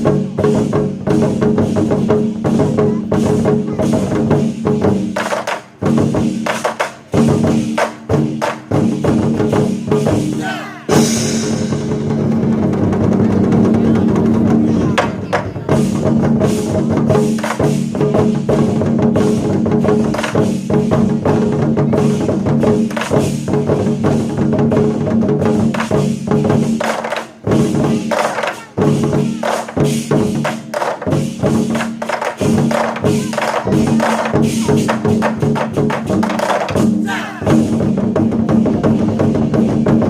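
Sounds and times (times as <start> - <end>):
group beating war drums: 0.0 - 40.0.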